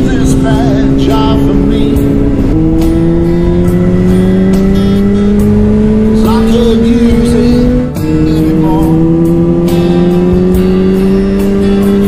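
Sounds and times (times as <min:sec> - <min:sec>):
background music: 0:00.0 - 0:12.0
motorcycle engine accelerating: 0:00.0 - 0:12.0.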